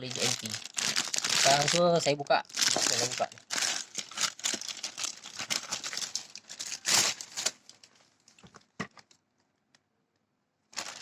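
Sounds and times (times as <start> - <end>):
plastic packaging crinkling: 0.0 - 9.2, 10.7 - 11.0.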